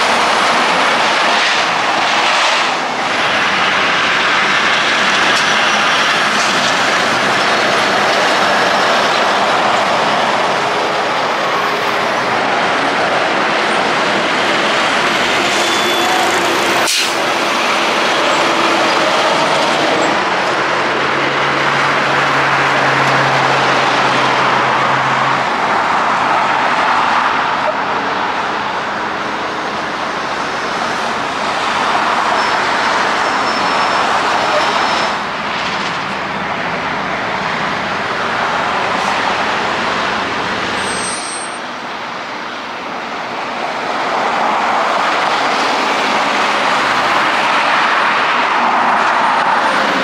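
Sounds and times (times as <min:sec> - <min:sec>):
diesel truck engines: 0:00.0 - 0:50.0
tyre and road noise: 0:00.0 - 0:50.0.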